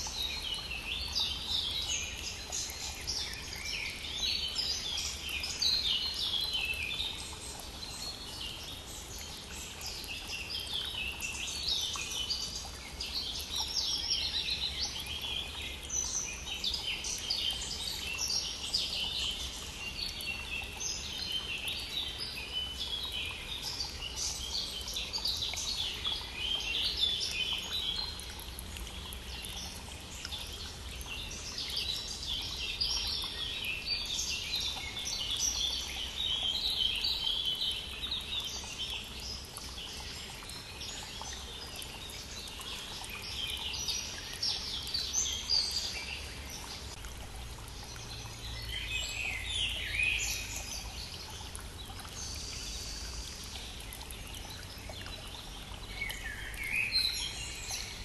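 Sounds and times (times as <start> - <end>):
small stream rushing: 0.0 - 58.0
songbirds chirping and trilling: 0.0 - 58.0.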